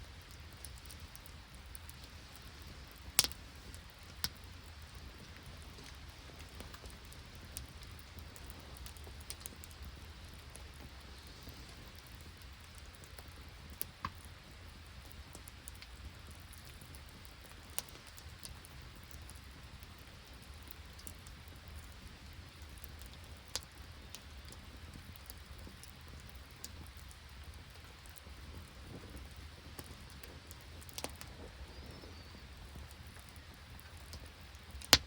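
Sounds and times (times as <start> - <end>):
light rain pattering: 0.0 - 35.0.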